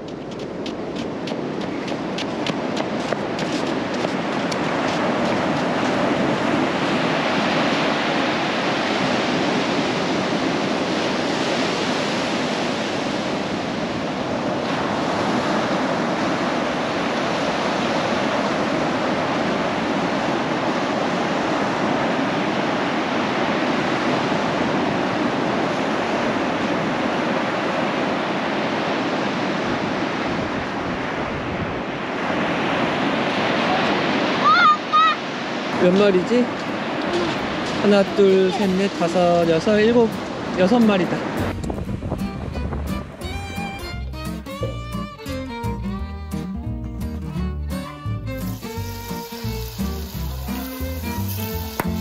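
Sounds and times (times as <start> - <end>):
ocean waves washing on beach: 0.0 - 43.8, 48.3 - 52.0.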